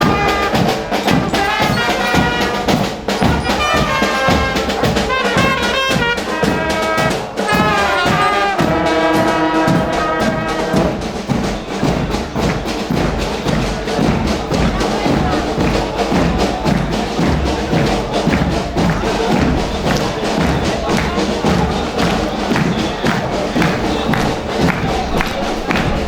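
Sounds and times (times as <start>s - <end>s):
brass band playing a march: 0.0s - 26.0s
crowd clapping along: 0.0s - 26.0s.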